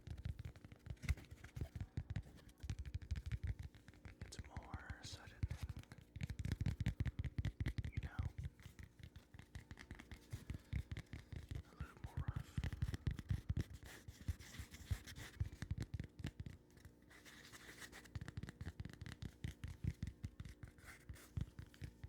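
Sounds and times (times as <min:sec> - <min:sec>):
fast irregular tapping and scratching: 0:00.0 - 0:22.0.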